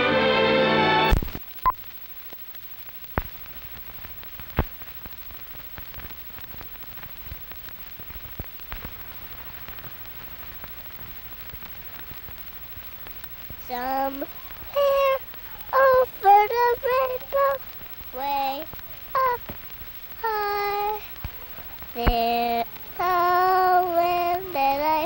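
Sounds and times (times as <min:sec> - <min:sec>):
steady soft hiss: 0:00.9 - 0:25.0
small ticks and clicks: 0:01.1 - 0:25.0.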